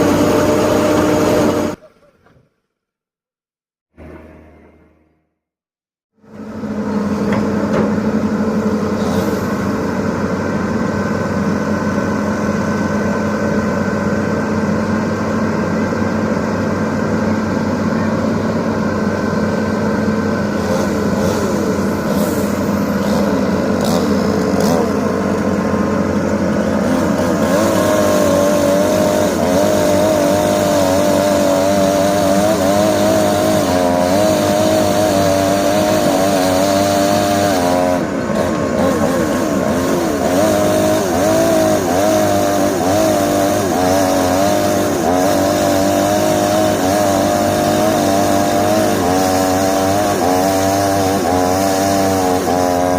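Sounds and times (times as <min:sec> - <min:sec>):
excavator diesel engine running: 0:00.0 - 0:02.6, 0:06.2 - 0:52.9.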